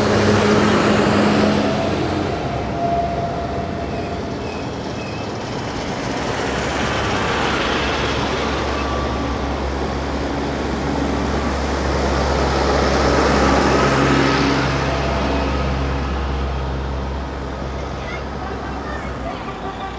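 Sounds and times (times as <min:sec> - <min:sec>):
tractor engines running: 0:00.0 - 0:19.9
tyre and road noise: 0:00.0 - 0:19.9.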